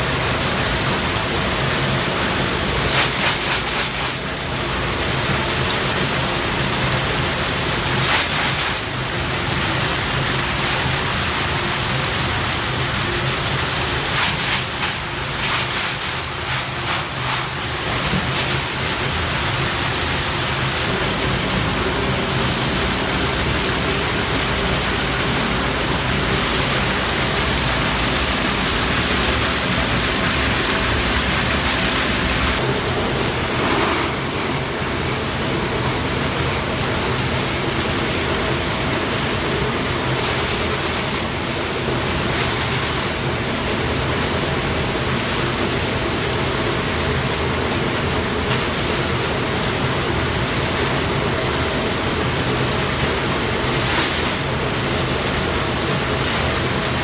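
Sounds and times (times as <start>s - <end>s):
workshop machinery drone: 0.0s - 57.0s.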